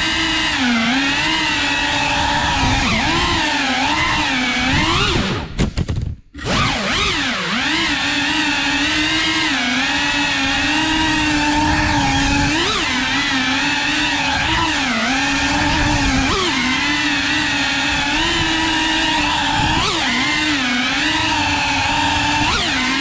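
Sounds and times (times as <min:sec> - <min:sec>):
drone propellers whining: 0:00.0 - 0:05.6, 0:06.4 - 0:23.0.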